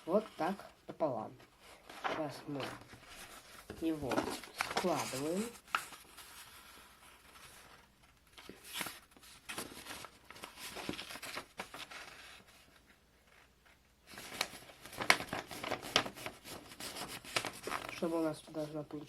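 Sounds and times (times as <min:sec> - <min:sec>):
paper folding and rustling: 0:01.4 - 0:19.0.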